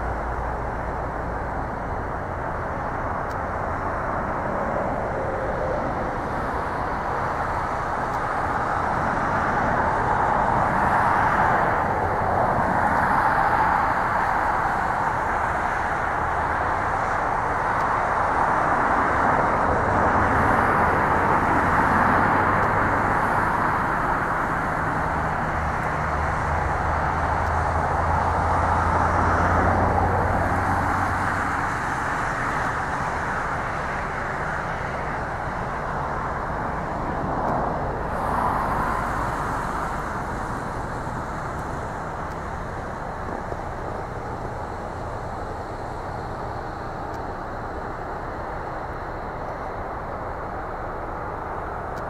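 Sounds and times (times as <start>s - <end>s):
distant jet engines running: 0.0s - 52.0s.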